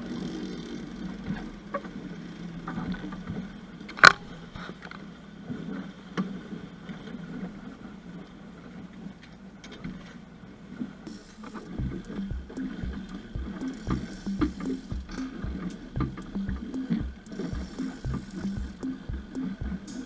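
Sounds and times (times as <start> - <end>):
outboard motor drone: 0.0 - 9.6, 10.2 - 20.0.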